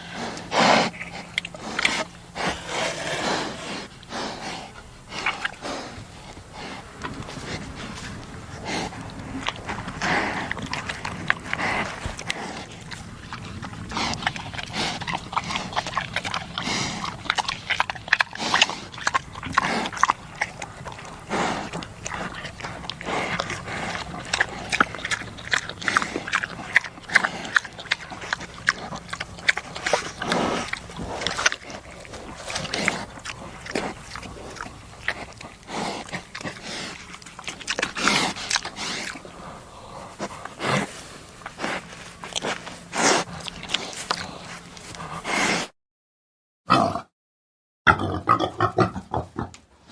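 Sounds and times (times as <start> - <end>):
pigs grunting and squealing: 0.0 - 45.6, 46.7 - 47.1, 47.9 - 49.6.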